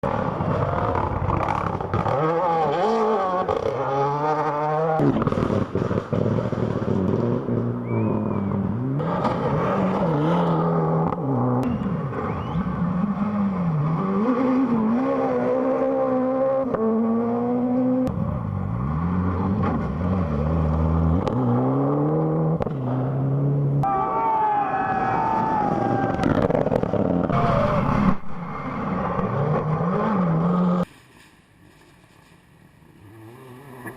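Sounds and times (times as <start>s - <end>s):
rally car engine revving: 0.0s - 24.0s, 25.0s - 30.9s
rushing road noise: 0.0s - 33.9s.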